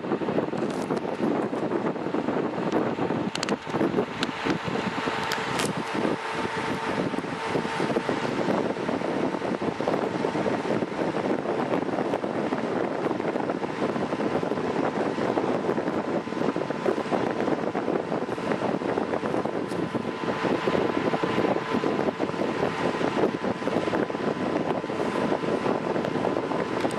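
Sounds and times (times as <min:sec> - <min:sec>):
electric fan running: 0:00.0 - 0:26.9
faint steady whine: 0:00.0 - 0:26.9.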